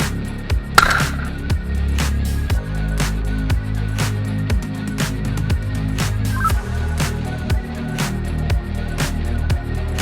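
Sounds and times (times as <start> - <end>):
music with steady beat and bass: 0.0 - 10.0.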